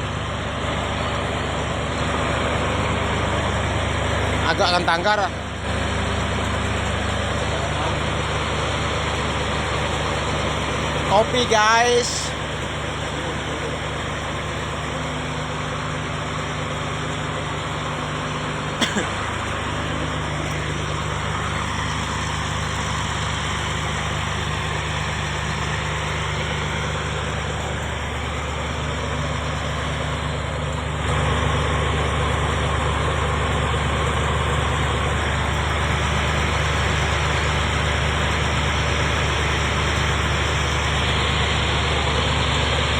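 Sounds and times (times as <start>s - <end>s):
diesel water pump engine humming: 0.0s - 42.9s.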